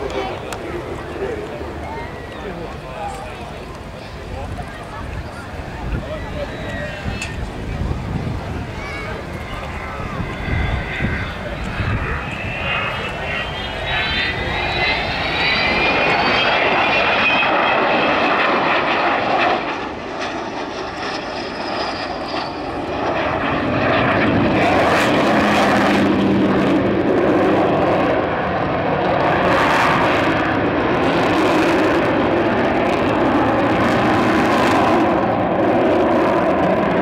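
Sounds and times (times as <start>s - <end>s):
jet roar: 0.0s - 37.0s
rising jet whine: 0.0s - 37.0s.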